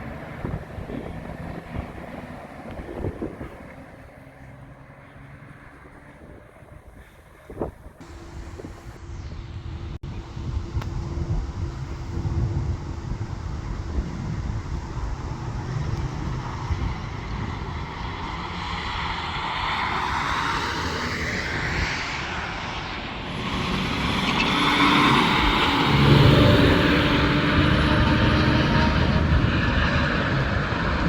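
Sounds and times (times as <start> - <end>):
road vehicle approaching: 0.0 - 31.0.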